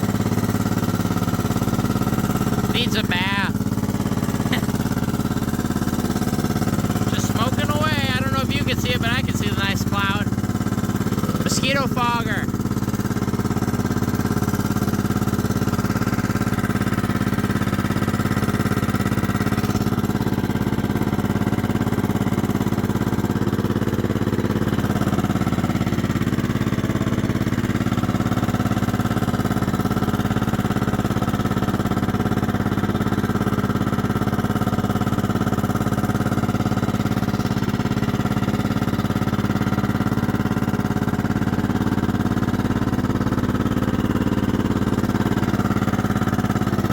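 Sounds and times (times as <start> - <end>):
lawn mower engine idling: 0.0 - 46.9.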